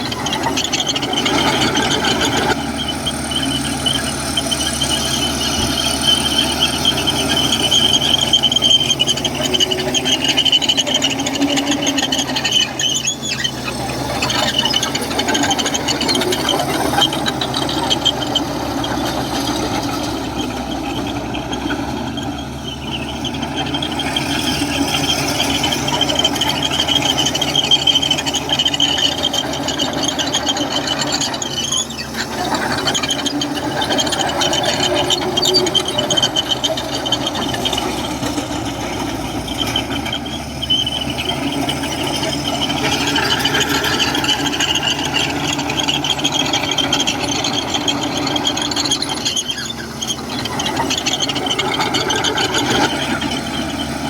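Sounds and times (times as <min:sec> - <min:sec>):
bulldozer engine running: 0:00.0 - 0:54.0
steel tracks squealing and rattling: 0:00.0 - 0:54.0.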